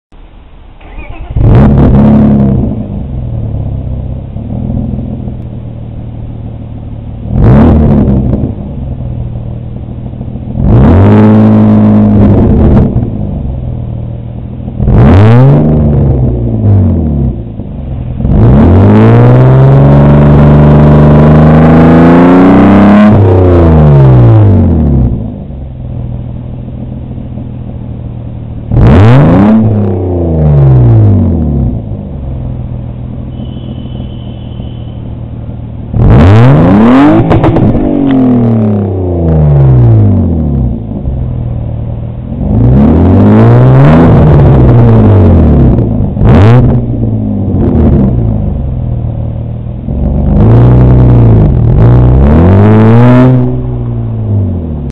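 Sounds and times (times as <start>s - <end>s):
car engine revving: 0.8s - 54.9s.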